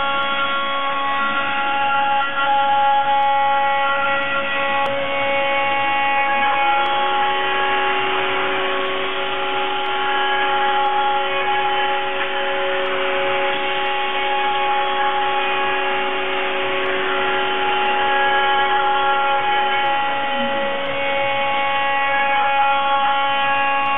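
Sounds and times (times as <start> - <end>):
milling machine whine: 0.0 - 23.9.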